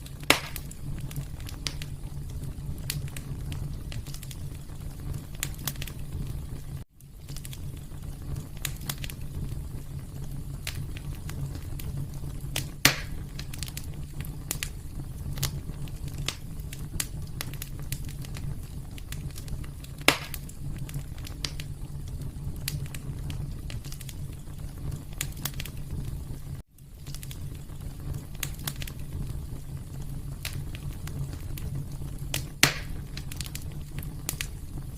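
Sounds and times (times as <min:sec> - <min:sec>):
fire crackling and popping: 0:00.0 - 0:34.9
wood fire rumbling: 0:00.0 - 0:34.9.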